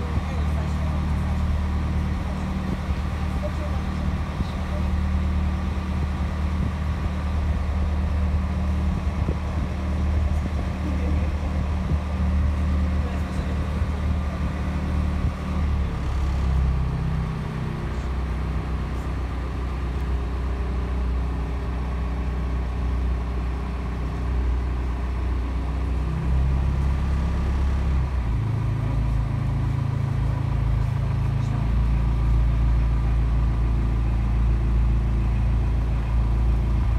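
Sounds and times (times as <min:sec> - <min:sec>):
boat engine running: 0:00.0 - 0:36.9.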